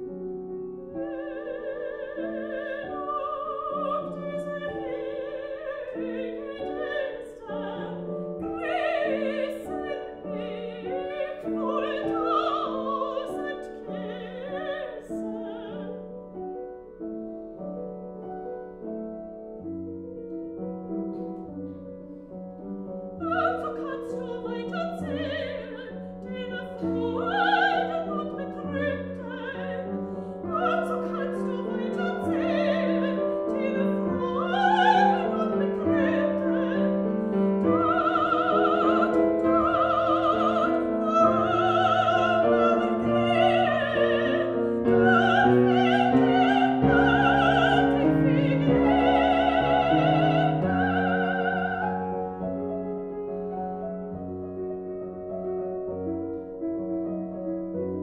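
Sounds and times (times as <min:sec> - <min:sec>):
grand piano accompaniment: 0:00.0 - 0:58.0
soprano singing: 0:00.0 - 0:58.0.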